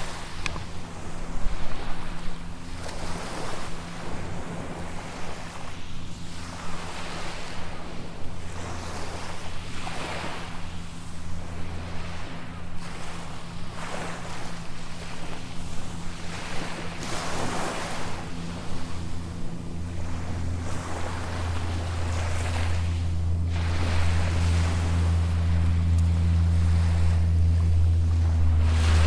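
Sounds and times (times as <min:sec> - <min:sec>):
steady low hum: 0:00.0 - 0:29.0
waves washing on sandy beach: 0:00.0 - 0:29.0.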